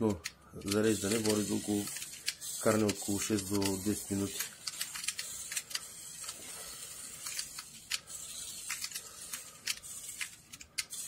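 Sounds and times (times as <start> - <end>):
toy car motor whirring: 0.6 - 11.0.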